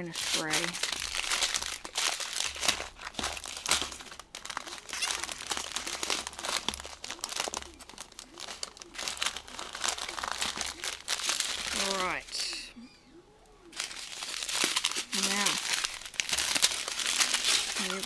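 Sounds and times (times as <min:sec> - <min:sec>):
plastic bags crinkling: 0:00.0 - 0:12.7, 0:13.7 - 0:18.0
sharp crackles: 0:00.0 - 0:18.0.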